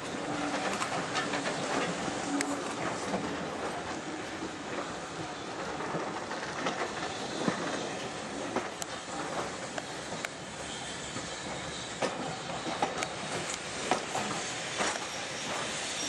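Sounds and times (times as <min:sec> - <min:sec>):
train rumble: 0:00.0 - 0:16.0
train wheels clicking over rail joints: 0:00.0 - 0:16.0.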